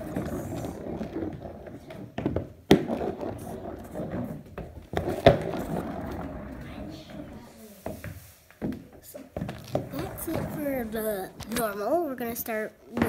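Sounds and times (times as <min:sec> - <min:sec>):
wheeled shoes rolling on wood floor: 0:00.0 - 0:13.0.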